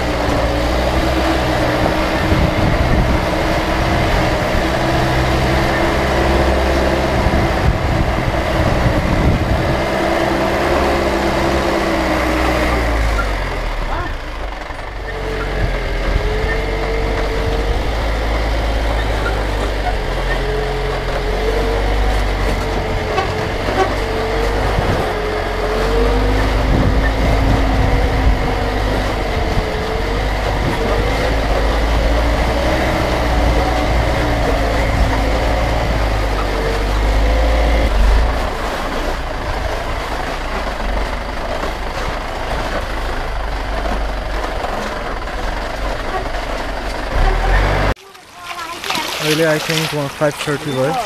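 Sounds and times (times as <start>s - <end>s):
heavy vehicle engine rumble: 0.0s - 51.0s.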